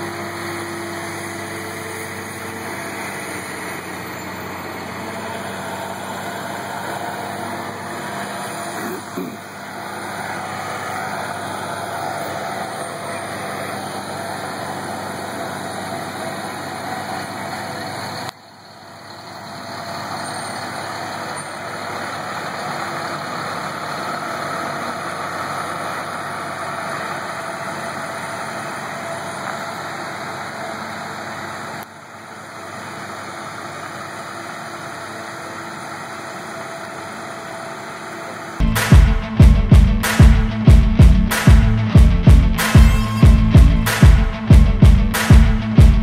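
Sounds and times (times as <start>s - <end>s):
road noise: 0.0s - 46.0s
truck engines running: 0.0s - 46.0s.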